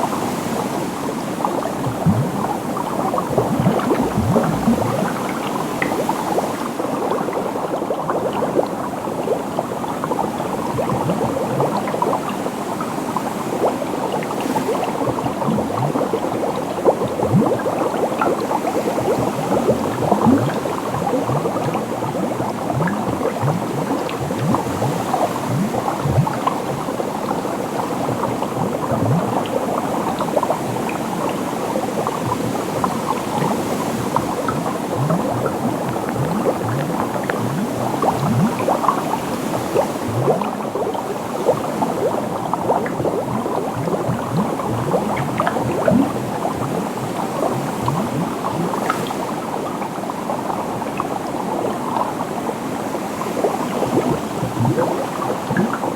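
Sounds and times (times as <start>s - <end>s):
water bubbling: 1.0s - 55.9s.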